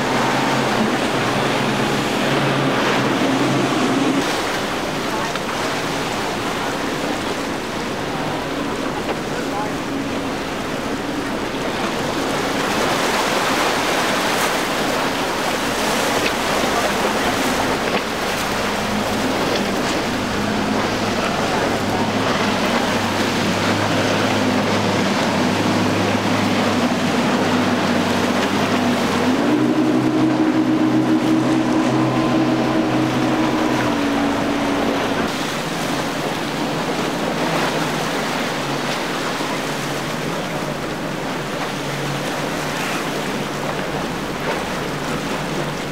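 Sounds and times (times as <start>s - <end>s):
hull wash and waves: 0.0s - 45.9s
outboard motors passing at speed: 0.0s - 45.9s.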